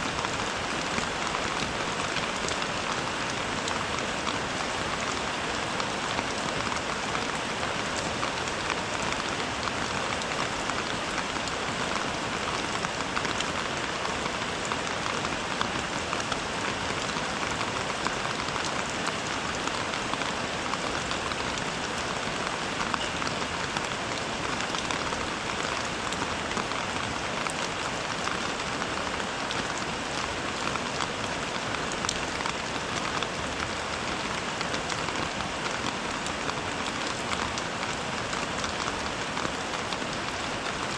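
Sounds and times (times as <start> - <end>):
rain patter: 0.0 - 40.9.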